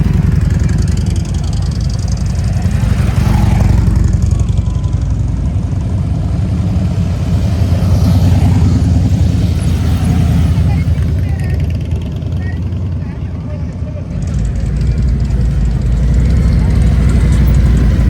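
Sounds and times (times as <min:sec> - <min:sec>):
motorcycle engine pulsing exhaust: 0:00.0 - 0:18.0.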